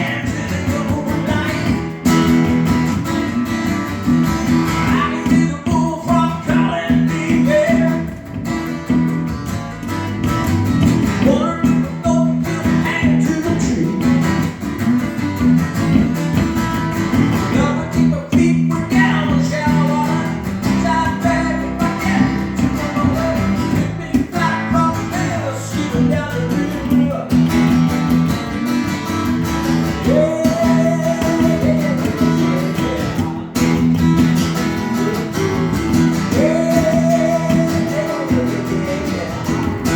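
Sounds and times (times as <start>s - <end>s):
guitar plucked and strummed: 0.0s - 39.9s.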